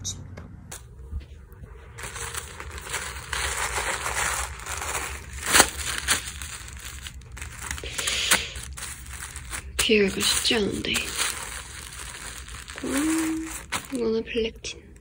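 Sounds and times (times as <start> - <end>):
plastic bag crinkling: 1.6 - 14.5.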